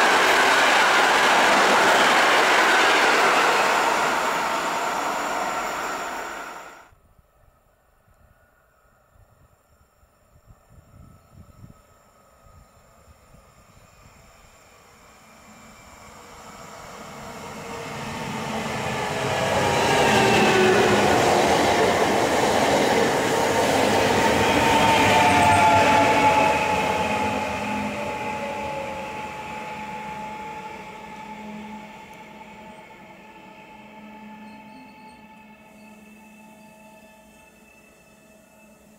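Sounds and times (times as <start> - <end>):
train motor whine: 0.0 - 6.8, 14.0 - 38.9
train wheel and rail noise: 0.0 - 7.0, 8.1 - 38.9.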